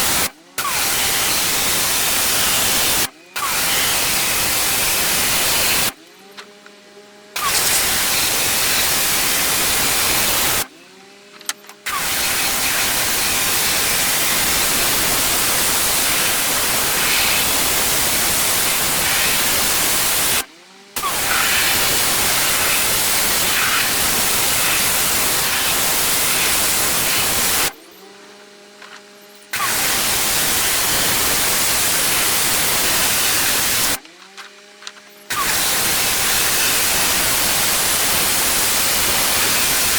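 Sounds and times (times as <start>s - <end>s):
pressure washer jet spraying: 0.0s - 6.0s, 7.4s - 10.7s, 11.9s - 20.4s, 21.0s - 27.8s, 29.5s - 34.0s, 35.3s - 39.9s
pressure washer motor humming: 0.0s - 39.9s.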